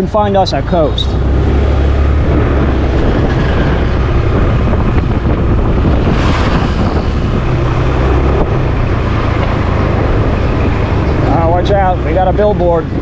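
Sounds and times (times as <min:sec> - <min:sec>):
wind buffeting microphone: 0:00.2 - 0:13.0
scooter engine hum: 0:00.4 - 0:06.1, 0:06.8 - 0:13.0.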